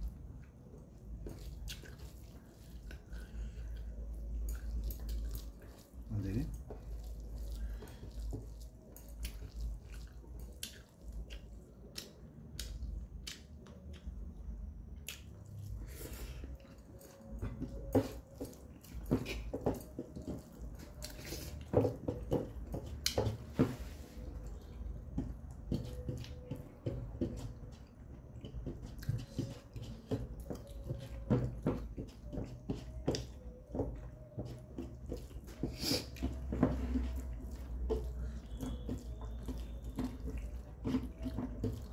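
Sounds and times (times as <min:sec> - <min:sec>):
chewing and lip-smacking: 0:00.0 - 0:23.3, 0:24.2 - 0:41.9
fingers squishing rice: 0:00.0 - 0:41.9.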